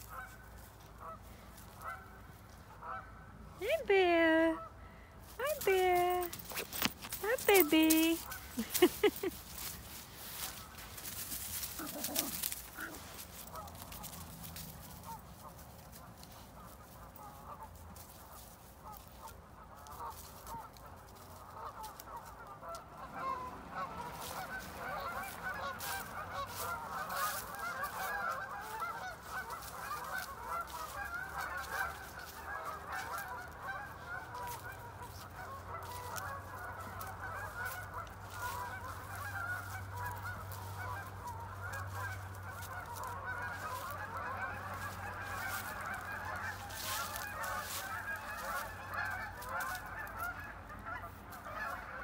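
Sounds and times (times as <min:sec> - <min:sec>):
geese honking: 0:00.0 - 0:04.8, 0:05.4 - 0:52.0.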